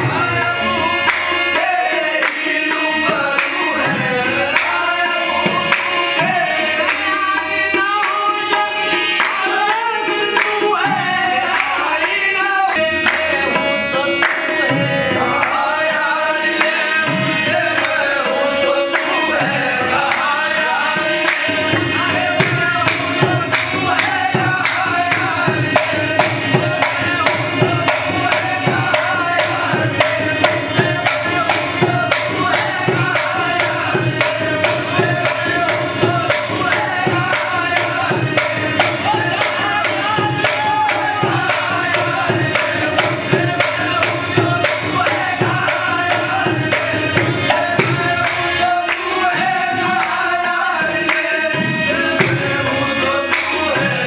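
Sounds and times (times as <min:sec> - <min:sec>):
harmoniums playing: 0:00.0 - 0:54.0
voices singing: 0:00.0 - 0:54.0.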